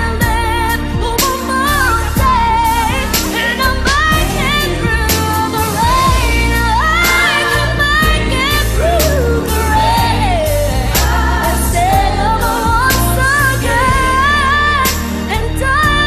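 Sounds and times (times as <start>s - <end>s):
bass and drums: 0.0s - 16.0s
pop song with singing: 0.0s - 16.0s.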